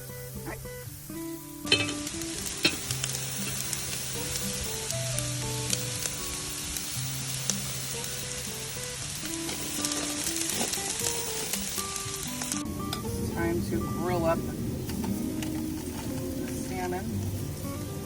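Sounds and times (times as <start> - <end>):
rice sizzling on a grill: 0.0 - 18.0
soft background music: 0.0 - 18.0.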